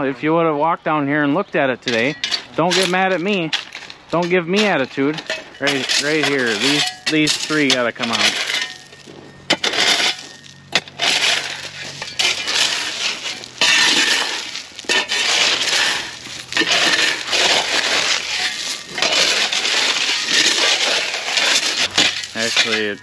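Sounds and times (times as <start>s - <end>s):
gravel clinking and scraping: 1.1s - 23.0s.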